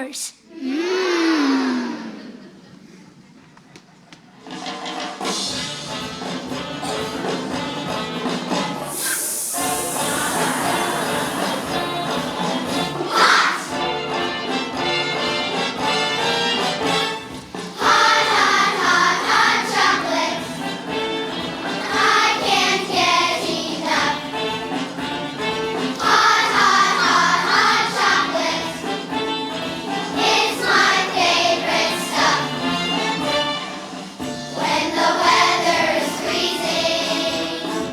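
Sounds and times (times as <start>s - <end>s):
children's choir singing: 6.2s - 37.9s.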